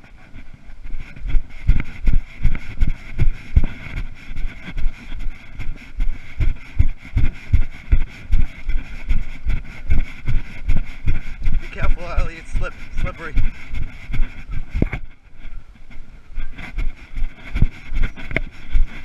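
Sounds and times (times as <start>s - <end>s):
footsteps through long grass: 0.0s - 19.0s.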